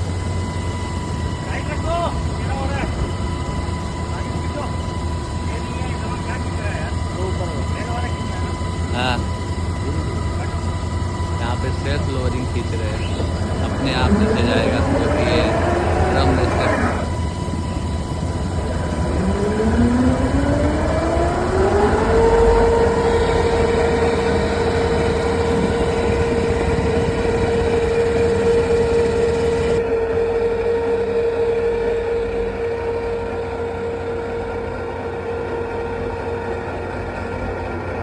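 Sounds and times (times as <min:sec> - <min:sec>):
ship machinery noise: 0:00.0 - 0:38.0
winch whine: 0:00.0 - 0:38.0.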